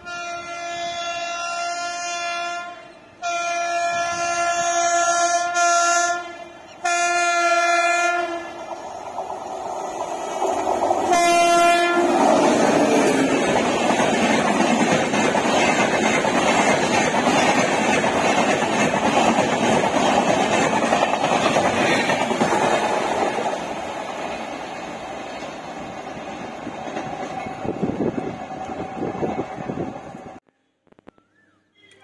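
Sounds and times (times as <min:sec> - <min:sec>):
train wheels rushing on rail: 0:04.0 - 0:30.4.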